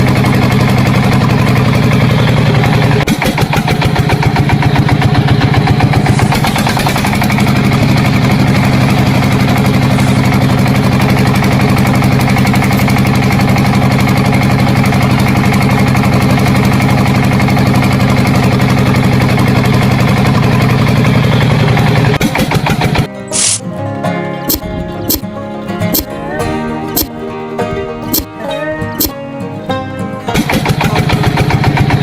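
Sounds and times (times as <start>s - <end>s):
small engine running: 0.0s - 23.6s, 24.5s - 27.2s, 28.0s - 28.4s, 29.0s - 29.2s, 30.3s - 32.0s.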